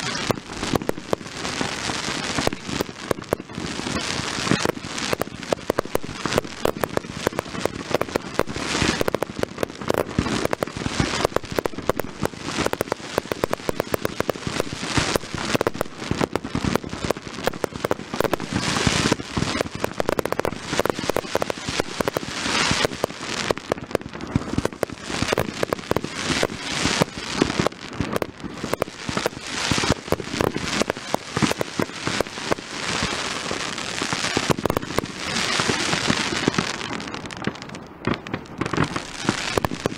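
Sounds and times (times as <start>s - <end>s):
fireworks bangs and pops: 0.0s - 39.9s
fireworks crackling: 0.0s - 39.9s.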